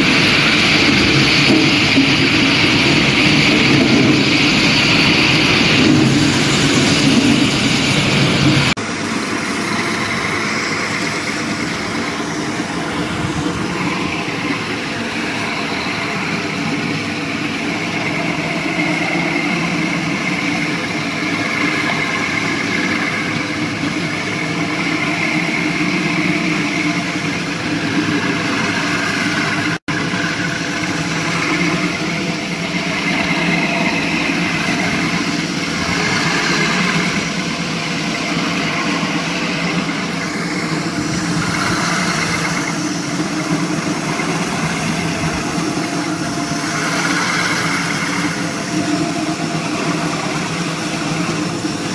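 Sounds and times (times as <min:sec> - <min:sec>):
floor grinder grinding concrete: 0:00.0 - 0:51.9.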